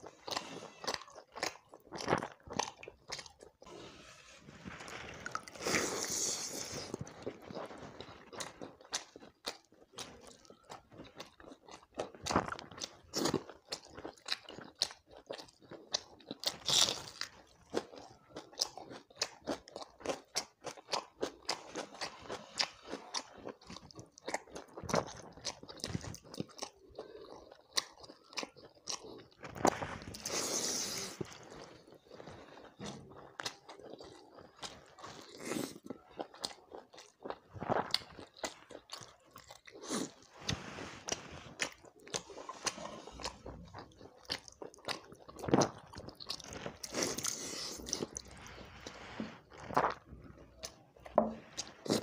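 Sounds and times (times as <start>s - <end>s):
person chewing wet food: 0.0s - 52.0s.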